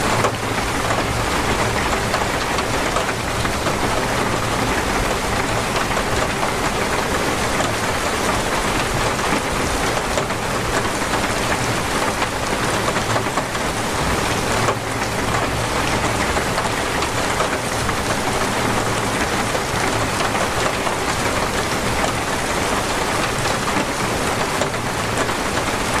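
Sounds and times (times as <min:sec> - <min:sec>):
heavy rain pattering: 0:00.0 - 0:26.0.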